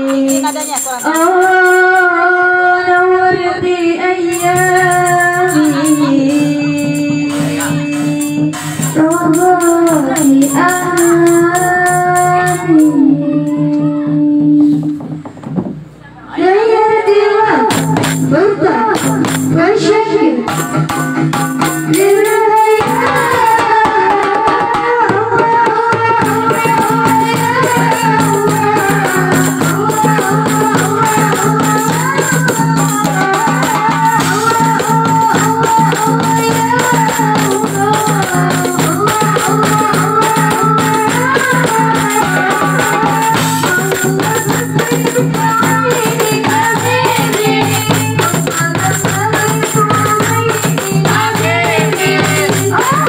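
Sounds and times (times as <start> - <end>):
hand drums: 0.0 - 2.3, 3.2 - 16.1, 17.6 - 53.0
jingling tambourines: 0.0 - 2.4, 4.2 - 13.6, 17.7 - 19.7, 20.5 - 24.8, 25.4 - 53.0
woman singing: 0.0 - 15.0, 16.3 - 20.9, 21.6 - 53.0.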